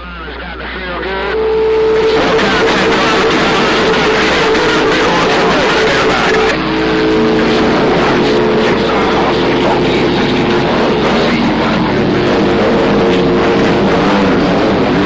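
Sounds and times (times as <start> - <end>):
heterodyne tones: 0.0 - 15.0
radio static: 0.0 - 15.0.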